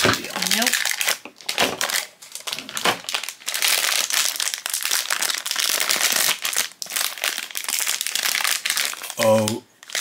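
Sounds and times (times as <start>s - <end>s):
foil packaging crinkling: 0.0s - 10.0s.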